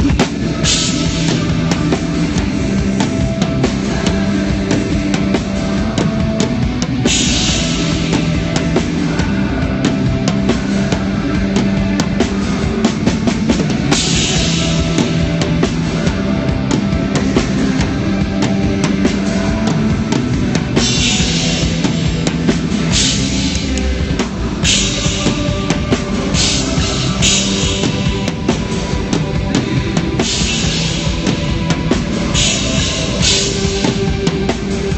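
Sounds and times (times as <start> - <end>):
bass drum: 0.0 - 34.9
rock band playing live: 0.0 - 34.9.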